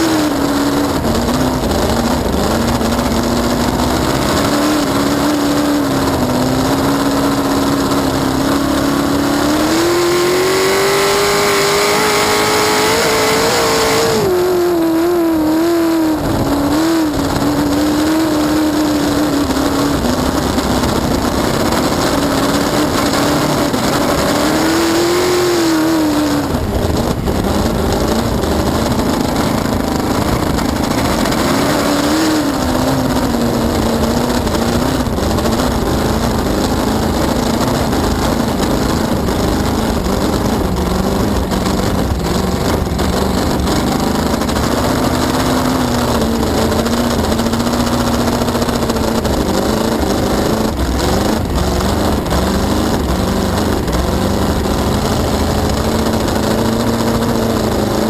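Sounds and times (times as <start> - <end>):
race boat engine running hard: 0.0 - 58.0.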